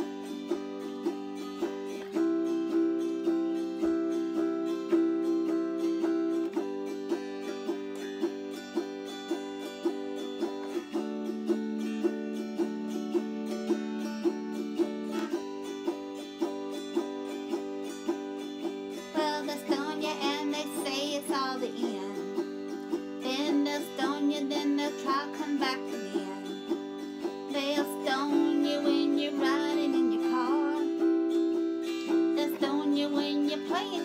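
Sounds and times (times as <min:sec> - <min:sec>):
autoharp strummed: 0:00.0 - 0:34.0.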